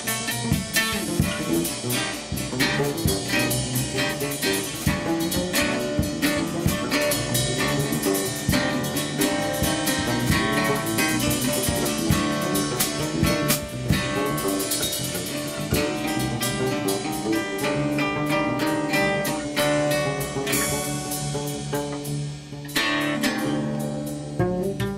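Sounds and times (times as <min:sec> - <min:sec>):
drum kit with cymbals: 0:00.0 - 0:24.9
plucked bass notes: 0:00.0 - 0:24.9
plucked string notes: 0:00.0 - 0:24.9.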